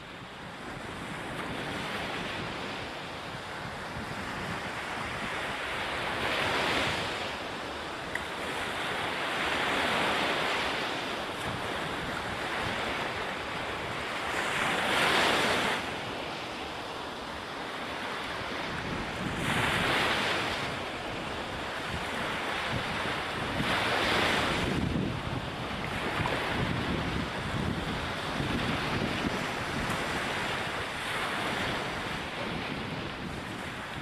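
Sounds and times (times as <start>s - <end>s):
ocean waves breaking: 0.1s - 34.0s.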